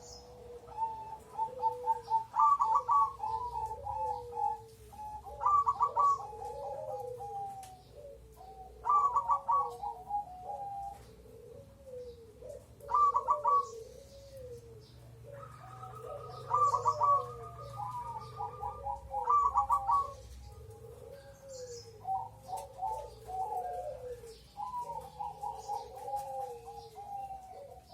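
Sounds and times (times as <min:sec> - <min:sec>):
doves cooing: 0:00.0 - 0:27.9.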